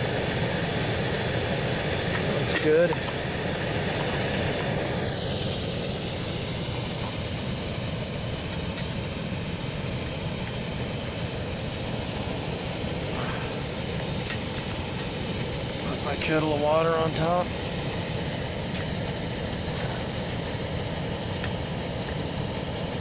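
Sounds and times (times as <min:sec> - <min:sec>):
camp stove burner rushing: 0:00.0 - 0:23.0.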